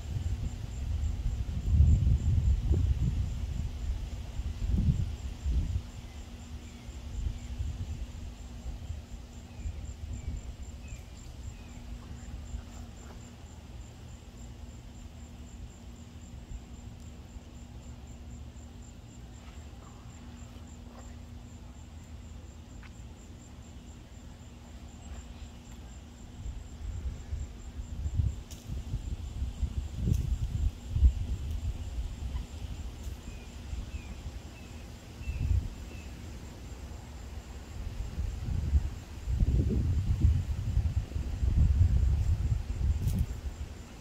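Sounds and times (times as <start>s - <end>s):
insect chirping: 0.0s - 44.0s.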